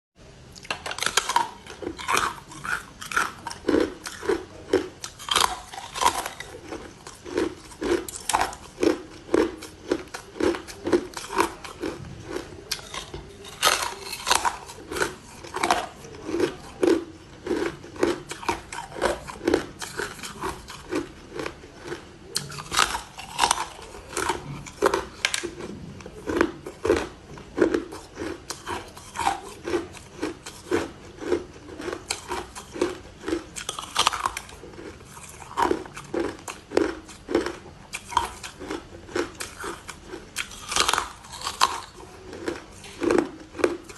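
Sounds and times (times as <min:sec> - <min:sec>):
ice being chewed: 0:00.6 - 0:43.9.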